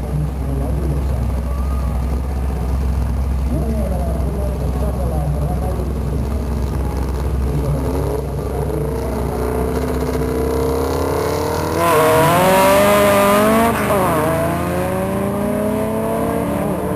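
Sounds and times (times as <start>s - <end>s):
drag car engines launching: 0.0s - 16.9s.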